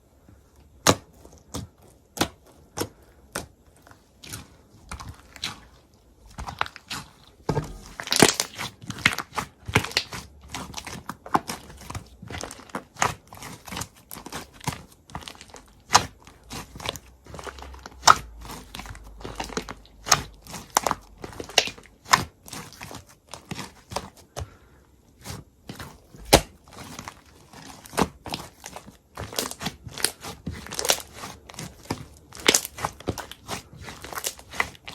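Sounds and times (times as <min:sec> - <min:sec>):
crinkling and crackling: 0:01.2 - 0:24.4, 0:25.2 - 0:34.9.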